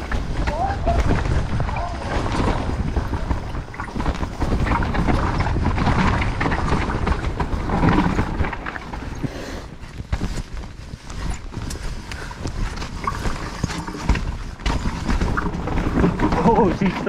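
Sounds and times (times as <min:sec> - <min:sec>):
low rumble: 0:00.0 - 0:17.0
mountain bike rattling and knocking: 0:00.0 - 0:17.0
wind buffeting microphone: 0:00.0 - 0:17.0.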